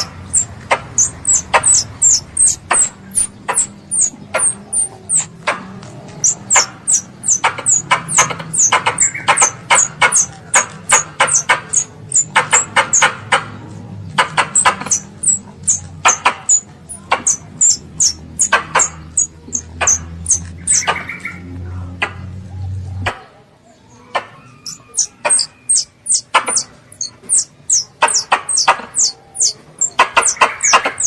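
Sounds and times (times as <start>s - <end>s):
squirrel chirping: 0.0s - 22.2s, 24.0s - 31.0s.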